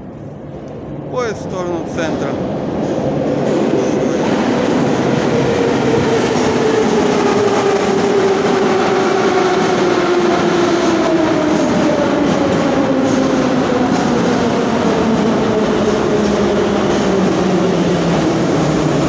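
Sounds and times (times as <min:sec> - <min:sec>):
train wheels rumbling on rail: 0:00.1 - 0:19.0.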